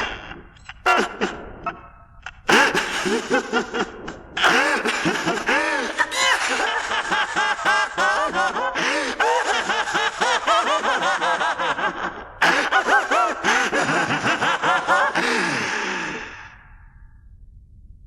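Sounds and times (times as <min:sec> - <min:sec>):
man cackling laugh: 0:00.0 - 0:01.9, 0:02.5 - 0:16.3.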